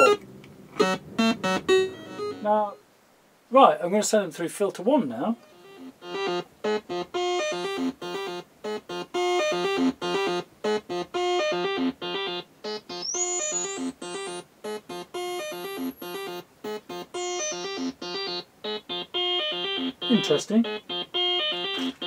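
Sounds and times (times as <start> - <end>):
synthesiser repeating note pattern: 0.0 - 2.7, 5.4 - 22.0.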